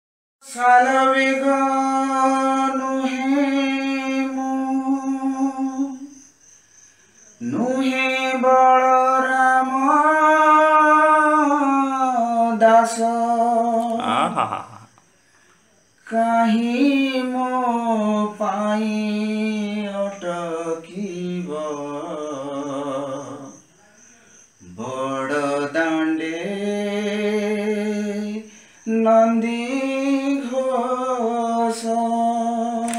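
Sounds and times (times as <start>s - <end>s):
person singing devotional song: 0.4s - 6.2s, 7.4s - 14.9s, 16.0s - 23.6s, 24.6s - 32.9s.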